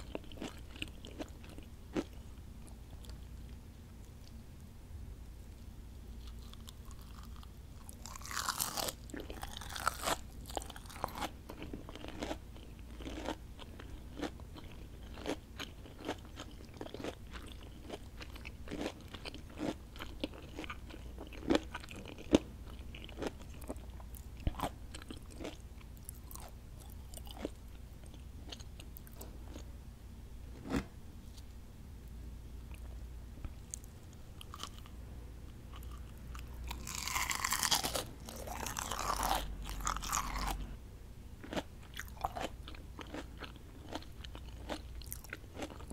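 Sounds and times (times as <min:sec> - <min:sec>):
crunchy food chewing: 0:00.0 - 0:04.4, 0:06.1 - 0:29.7, 0:32.7 - 0:40.8, 0:41.4 - 0:45.9.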